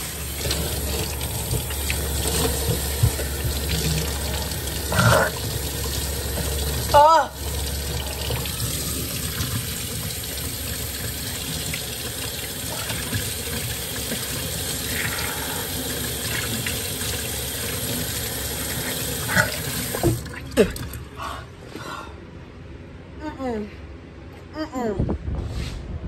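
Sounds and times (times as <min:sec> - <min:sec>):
faucet water splashing into sink: 0:00.0 - 0:21.0.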